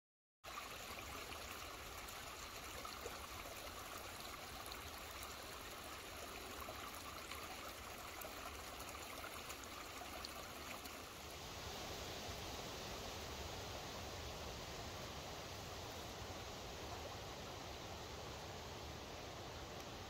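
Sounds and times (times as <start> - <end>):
creek trickling over rocks: 0.4 - 20.0.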